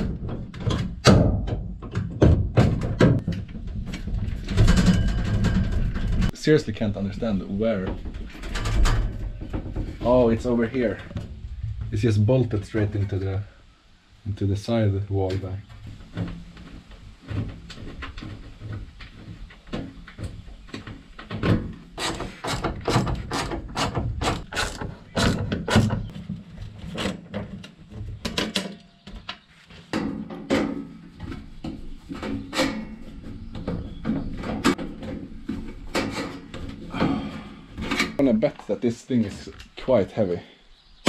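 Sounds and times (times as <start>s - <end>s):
hand tools and metal parts clunking: 0.0s - 13.4s, 15.1s - 40.4s.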